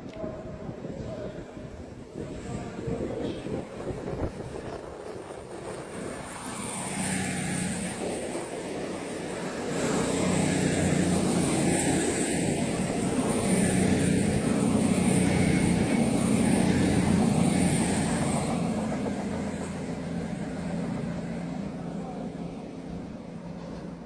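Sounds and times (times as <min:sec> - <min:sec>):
train rumbling with high whine: 0:00.0 - 0:24.0.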